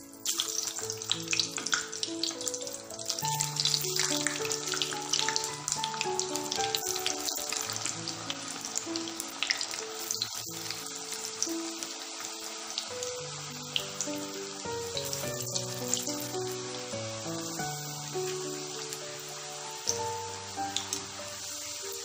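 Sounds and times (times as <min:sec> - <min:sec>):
background music: 0:00.0 - 0:22.0
potatoes deep-frying in oil: 0:00.0 - 0:22.0.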